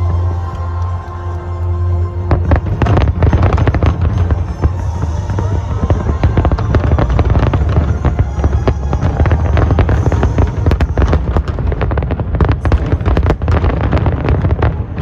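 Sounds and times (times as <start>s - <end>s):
deep booming: 0.0s - 15.0s
fireworks bangs and crackling: 0.0s - 15.0s.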